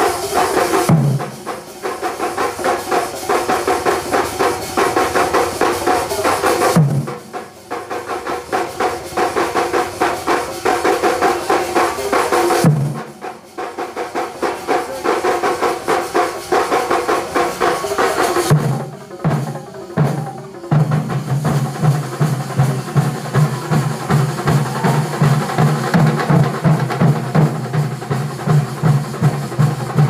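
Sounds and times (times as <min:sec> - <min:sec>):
drums beaten with sticks: 0:00.0 - 0:30.0.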